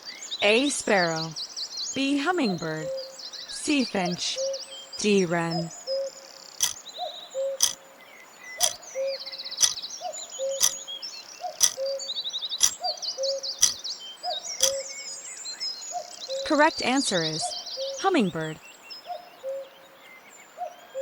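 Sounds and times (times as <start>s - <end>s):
birdsong with chirps and trills: 0.0s - 21.0s.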